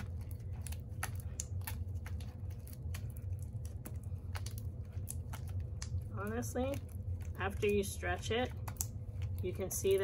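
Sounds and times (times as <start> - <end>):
slime clicking and squelching: 0.0 - 10.0
steady low hum: 0.0 - 10.0.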